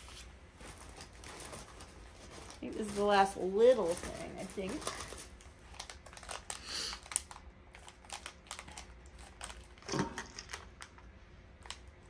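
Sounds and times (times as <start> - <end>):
plastic crinkle: 0.5 - 12.0.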